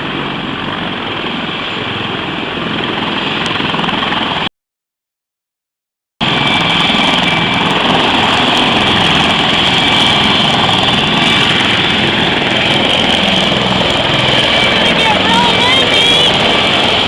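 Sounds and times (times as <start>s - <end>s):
helicopter engines and rotors: 0.0s - 4.5s, 6.2s - 17.0s.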